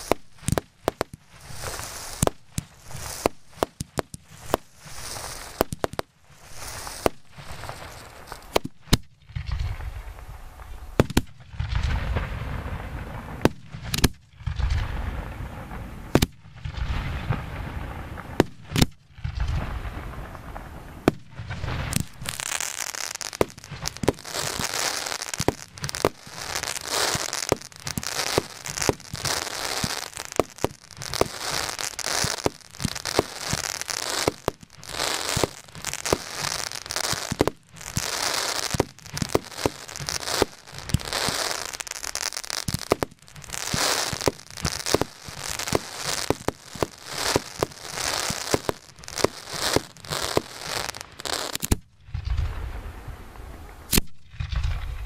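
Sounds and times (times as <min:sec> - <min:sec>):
fireworks bangs: 0:00.0 - 0:55.0
fireworks crackling and popping: 0:00.0 - 0:55.0.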